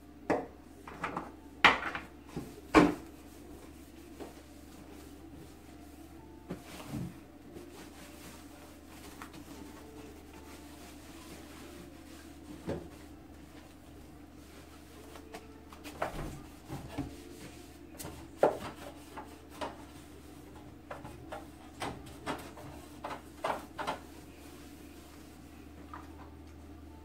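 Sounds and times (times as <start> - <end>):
cloth wiping tiles: 2.4 - 6.0, 6.6 - 25.7.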